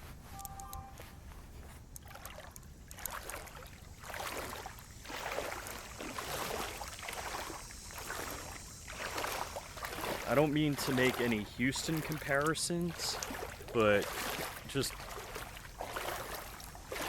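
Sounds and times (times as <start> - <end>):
wading through floodwater: 0.0 - 17.0.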